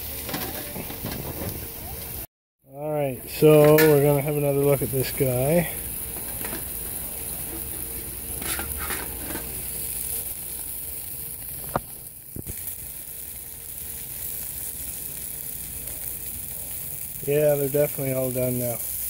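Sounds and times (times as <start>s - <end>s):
patties sizzling on a grill: 0.0s - 19.0s.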